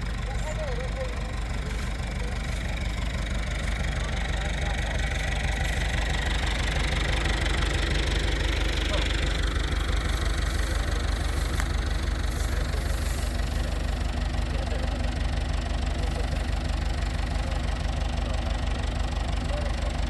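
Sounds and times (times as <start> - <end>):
diesel engine throbbing: 0.0 - 20.0.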